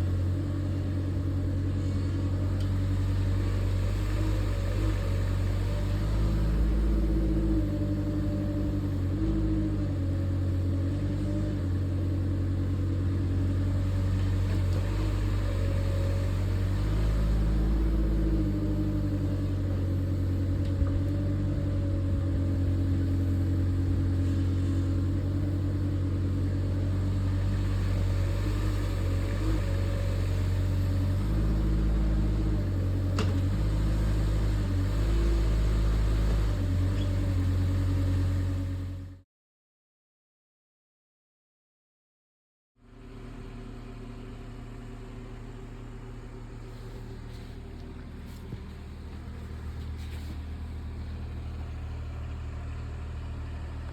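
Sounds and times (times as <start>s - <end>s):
excavator diesel engine running: 0.0s - 39.2s, 42.9s - 53.9s.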